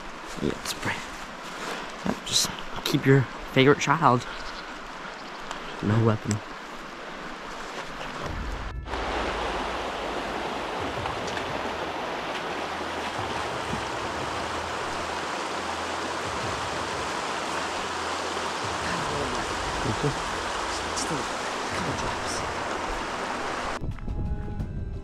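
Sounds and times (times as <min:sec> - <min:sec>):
stream rushing over stones: 0:00.0 - 0:23.8.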